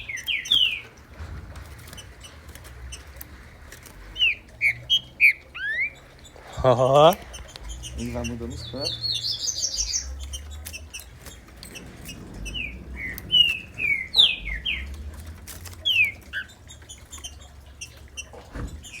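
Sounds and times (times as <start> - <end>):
bird singing whistled notes: 0.0 - 1.0, 4.0 - 18.3
faint clicks: 0.0 - 19.0.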